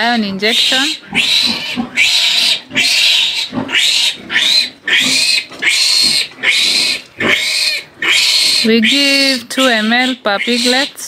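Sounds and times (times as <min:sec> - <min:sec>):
piglet squealing: 0:00.5 - 0:11.0.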